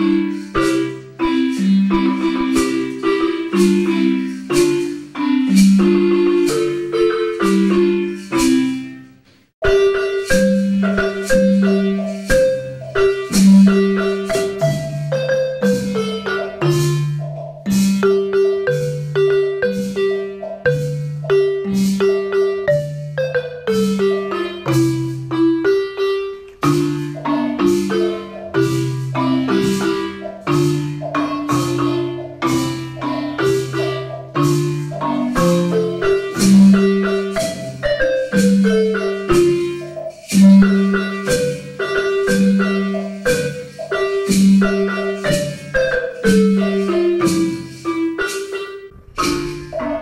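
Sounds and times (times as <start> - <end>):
marimba melody: 0.0 - 50.0.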